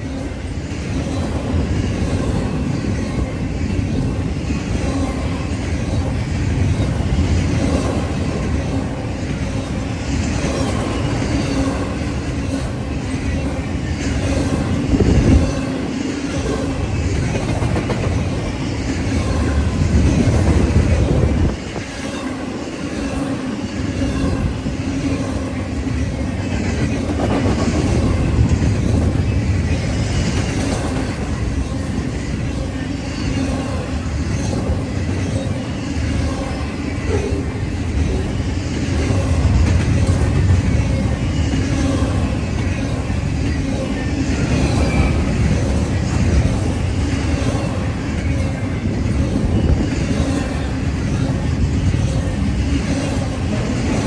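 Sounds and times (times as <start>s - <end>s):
train rumbling past: 0.0s - 54.0s.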